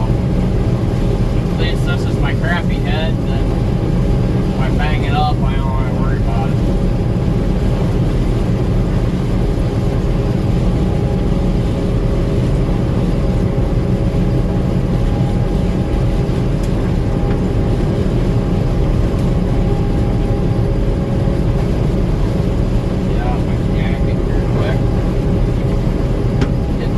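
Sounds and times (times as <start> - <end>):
combine harvester engine drone: 0.0 - 26.9
faint machinery whine: 0.0 - 26.9.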